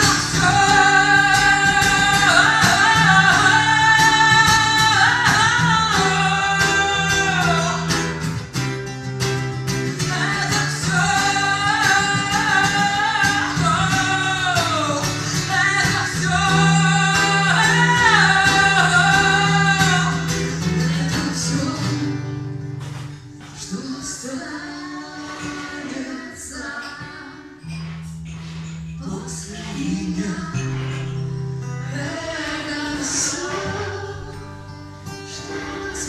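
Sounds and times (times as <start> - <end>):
person singing: 0.0 - 8.2, 9.9 - 22.3, 23.4 - 27.7, 29.0 - 36.0
guitar accompaniment: 0.0 - 36.0.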